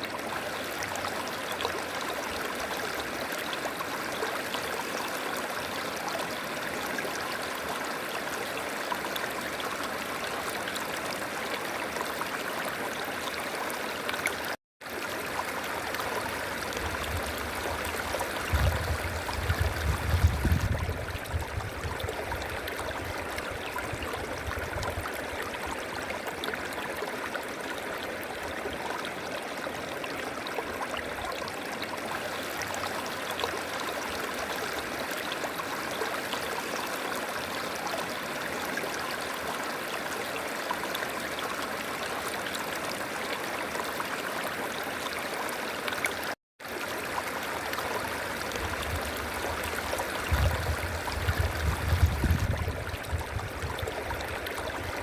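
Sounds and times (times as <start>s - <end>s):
river water flowing over rocks: 0.0s - 20.0s, 22.0s - 55.0s.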